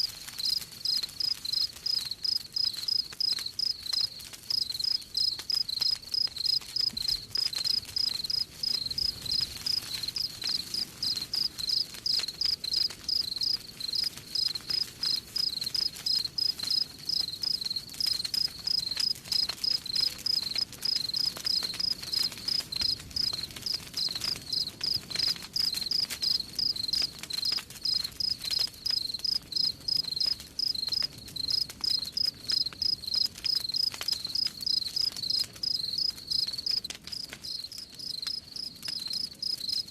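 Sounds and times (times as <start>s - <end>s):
campfire crackling: 0.0s - 39.9s
cricket chirping: 0.4s - 39.8s.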